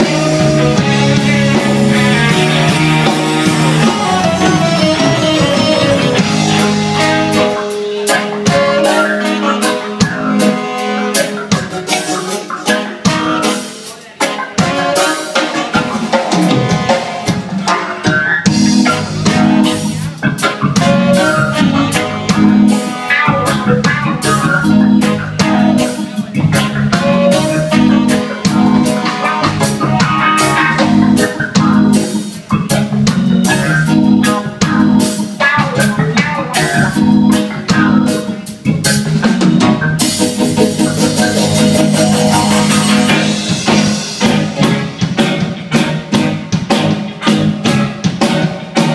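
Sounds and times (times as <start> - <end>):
low bass notes: 0.0 - 13.5, 15.8 - 48.9
live band playing: 0.0 - 48.9.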